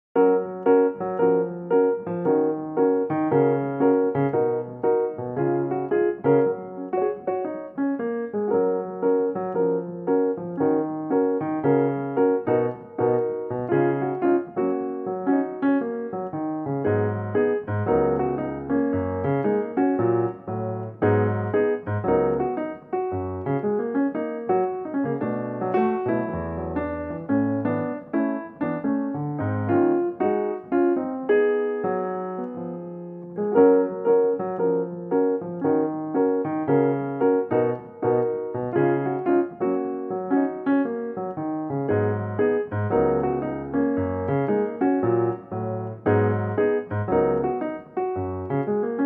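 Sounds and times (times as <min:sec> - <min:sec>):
background piano music: 0:00.2 - 0:49.0.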